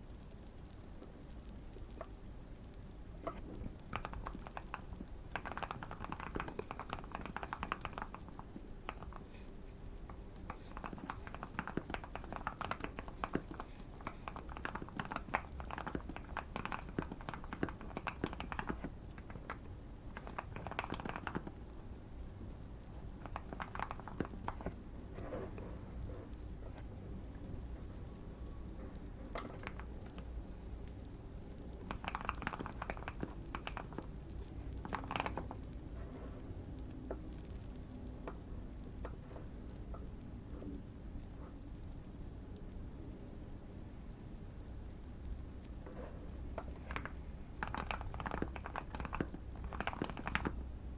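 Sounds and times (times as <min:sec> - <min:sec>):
fireplace crackle: 0:00.0 - 0:50.9.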